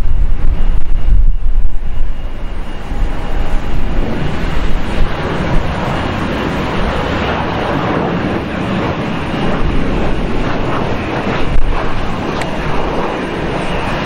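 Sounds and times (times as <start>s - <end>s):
jet engines rushing: 0.0s - 14.0s
wind rumble on microphone: 0.0s - 14.0s.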